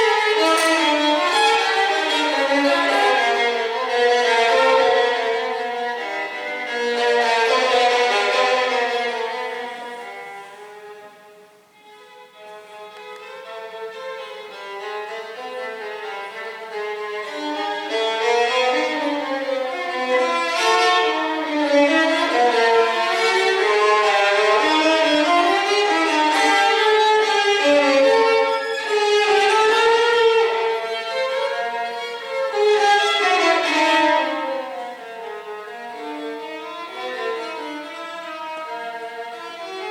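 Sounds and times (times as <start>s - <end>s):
violin melody: 0.0s - 39.9s.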